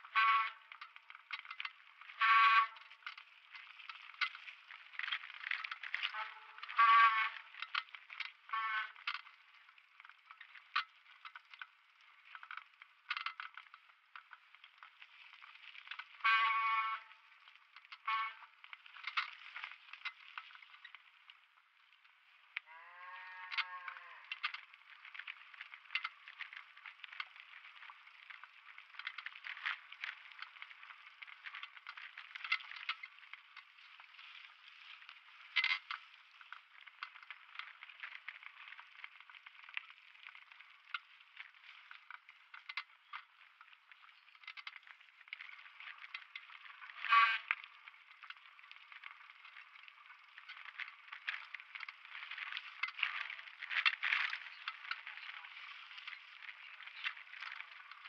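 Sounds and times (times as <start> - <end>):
mountain bike rattling over rocks: 0.0 - 58.0.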